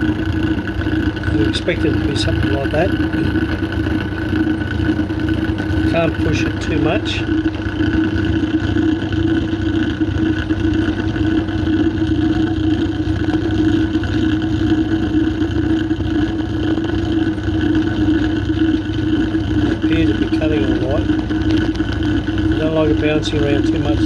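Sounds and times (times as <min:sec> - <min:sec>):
lathe humming: 0:00.0 - 0:24.0.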